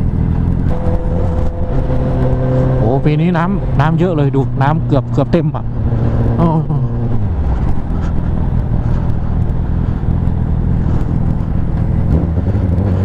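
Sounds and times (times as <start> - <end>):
wind rushing noise: 0.0 - 12.6
motorcycle engine cruising: 0.0 - 13.0.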